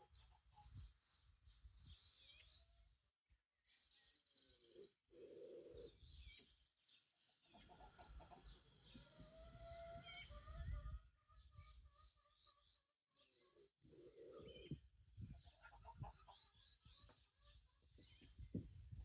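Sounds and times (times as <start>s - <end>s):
small birds chirping: 0.0s - 2.9s, 3.7s - 19.0s.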